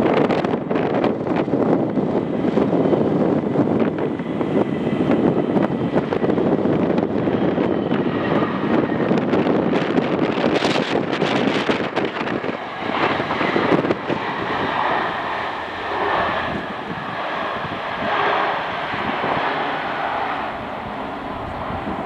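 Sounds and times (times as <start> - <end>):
jet engines whining: 0.0 - 22.0
wind buffeting microphone: 0.0 - 22.0.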